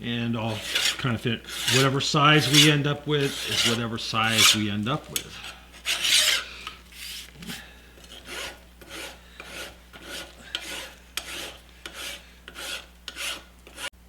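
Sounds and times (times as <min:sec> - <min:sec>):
metal file rasping on steel: 0:00.5 - 0:04.7, 0:05.8 - 0:06.5, 0:07.4 - 0:13.9.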